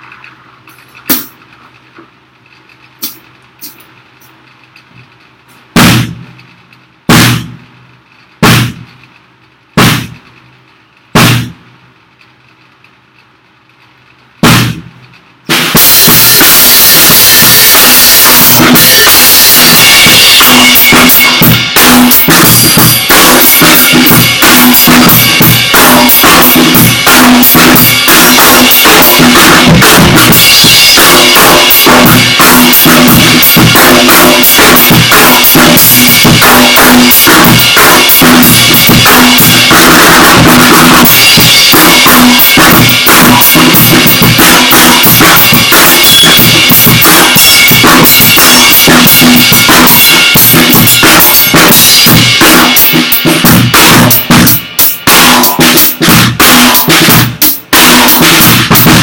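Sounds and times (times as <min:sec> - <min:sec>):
drum kit beat with cymbals: 0:00.0 - 0:02.1, 0:03.0 - 0:04.4, 0:05.4 - 0:06.4, 0:07.0 - 0:11.9, 0:14.4 - 0:59.0
drum strokes ringing: 0:00.0 - 0:02.1, 0:05.4 - 0:06.4, 0:07.0 - 0:07.7, 0:08.4 - 0:09.0, 0:09.8 - 0:10.3, 0:11.1 - 0:11.8, 0:14.4 - 0:59.0.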